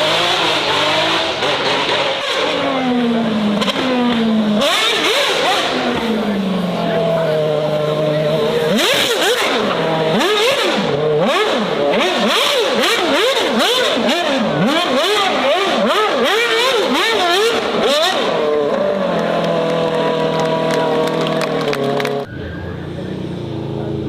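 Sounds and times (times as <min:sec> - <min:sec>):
engine revving and idling: 0:00.0 - 0:24.0.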